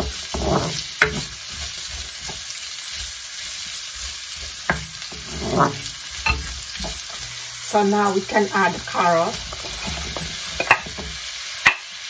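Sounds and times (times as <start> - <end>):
wooden spoon scraping a pan: 0.0 - 11.8
onions sizzling in hot oil: 0.0 - 12.0.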